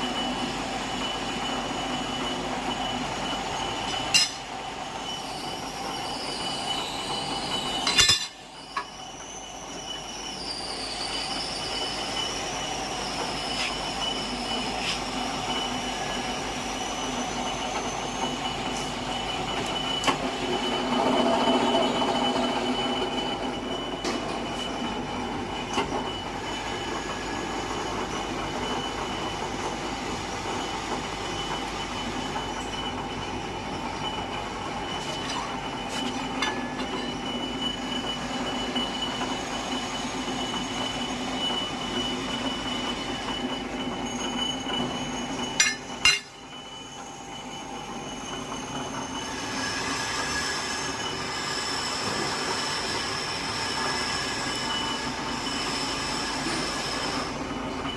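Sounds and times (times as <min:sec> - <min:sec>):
tapping machine hum and whine: 0:00.0 - 0:57.9
wavering squeal: 0:00.0 - 0:57.9.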